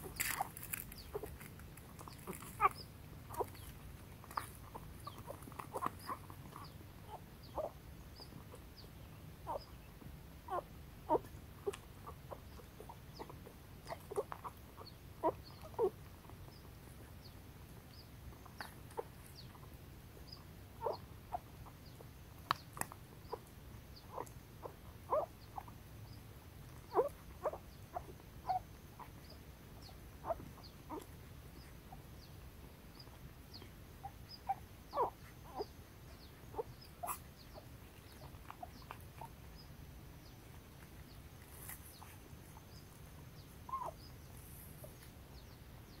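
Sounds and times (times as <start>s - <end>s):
puppies whimpering and squeaking: 0.0s - 8.5s, 9.5s - 9.7s, 10.5s - 16.7s, 20.4s - 32.3s, 33.0s - 39.5s, 40.9s - 45.1s.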